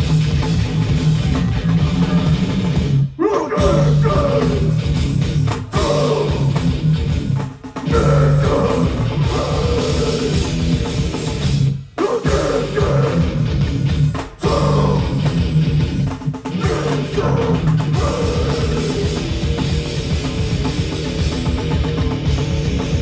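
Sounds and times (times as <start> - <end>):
hardcore band playing live: 0.0 - 23.0.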